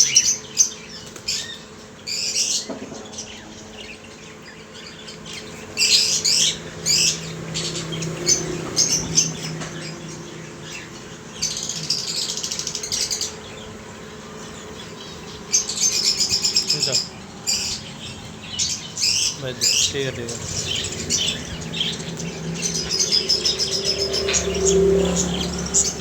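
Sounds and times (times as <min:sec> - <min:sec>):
parakeet pulsing chatter: 0:00.0 - 0:26.0
parakeets squawking: 0:00.0 - 0:26.0.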